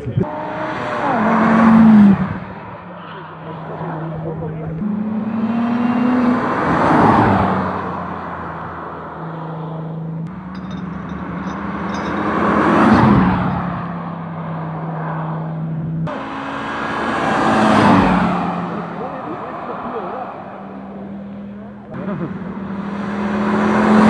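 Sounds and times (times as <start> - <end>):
cars driving past: 0.0 - 24.0.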